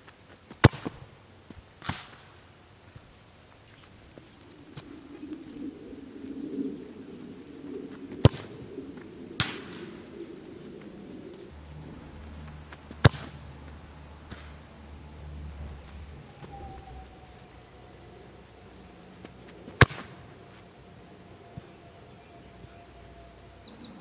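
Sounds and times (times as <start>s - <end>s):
low steady drone: 1.0s - 24.0s
deeper hum: 2.4s - 24.0s.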